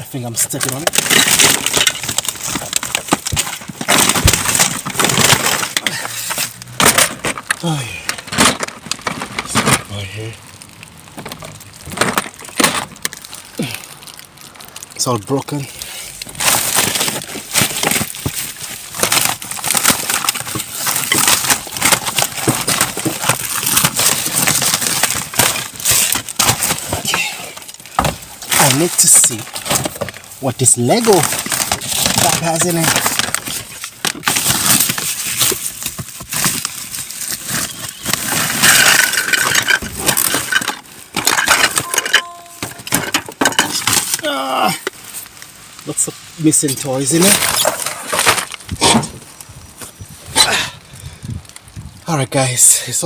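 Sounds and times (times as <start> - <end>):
knocks and crunches: 0.0 - 52.6
rubbish bags rustling: 0.1 - 51.1.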